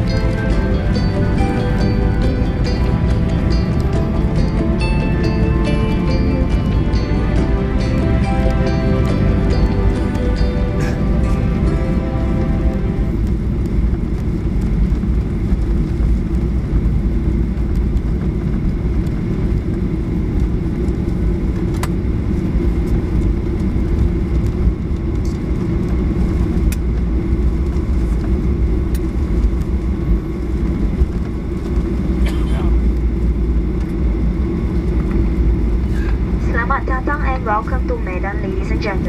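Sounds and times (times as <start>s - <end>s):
airplane cabin rumble: 0.0s - 39.0s
jet engines low roar: 0.0s - 39.0s.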